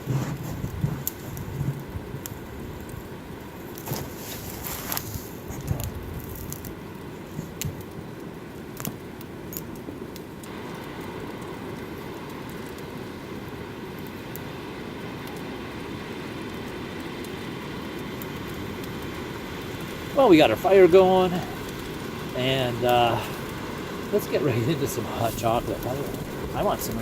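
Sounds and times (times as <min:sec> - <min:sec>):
campfire crackling and popping: 0:00.0 - 0:27.0
steady rushing noise: 0:00.0 - 0:27.0.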